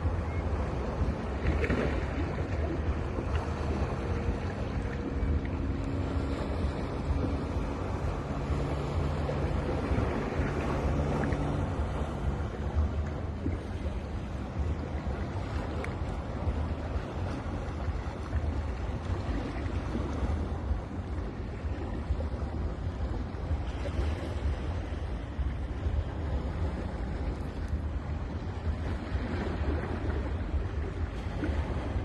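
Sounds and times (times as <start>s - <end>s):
sea waves washing onto beach: 0.0s - 32.0s
wind on microphone: 0.0s - 32.0s.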